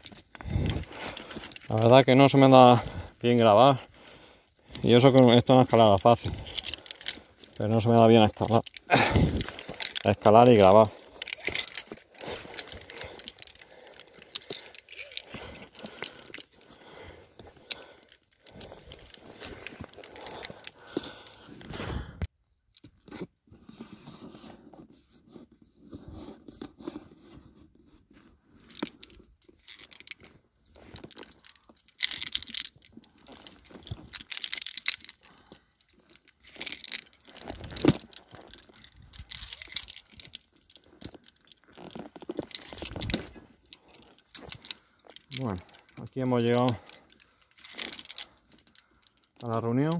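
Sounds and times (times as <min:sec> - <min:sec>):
metal climbing gear clinking: 0:00.0 - 0:49.9.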